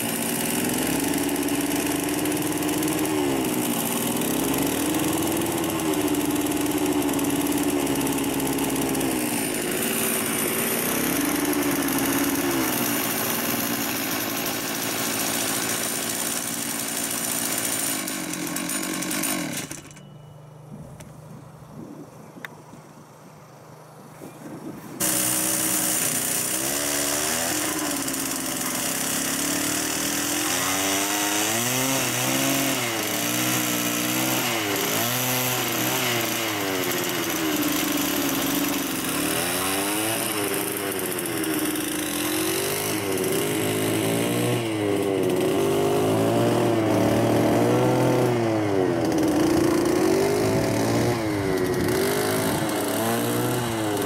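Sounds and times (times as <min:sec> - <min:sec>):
small petrol engine revving: 0:00.0 - 0:20.0, 0:24.3 - 0:54.0.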